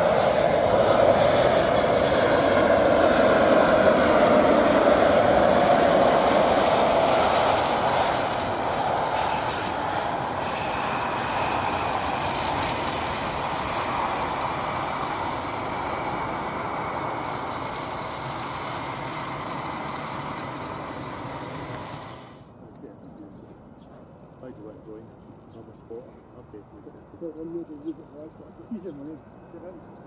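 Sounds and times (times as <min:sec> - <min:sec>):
airliner engines rumbling: 0:00.0 - 0:30.0.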